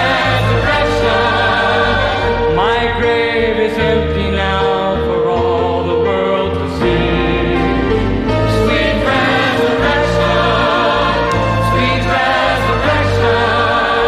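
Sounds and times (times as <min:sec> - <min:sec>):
choir singing: 0:00.0 - 0:14.0
instrumental accompaniment: 0:00.0 - 0:14.0.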